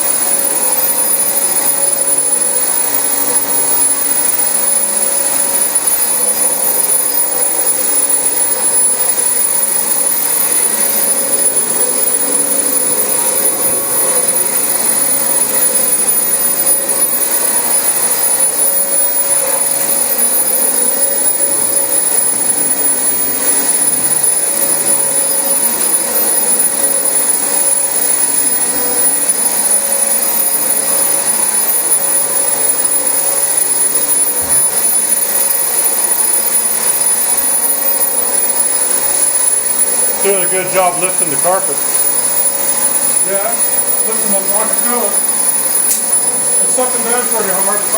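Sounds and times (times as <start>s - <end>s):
vacuum cleaner whining on carpet: 0.0s - 47.9s.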